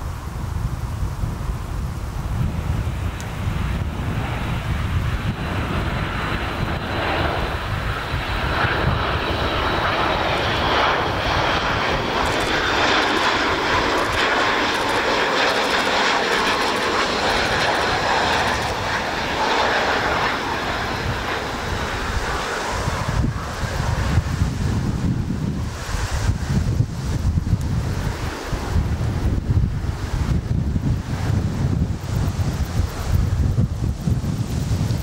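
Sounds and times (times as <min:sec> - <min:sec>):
jet engine noise: 0:00.0 - 0:35.0.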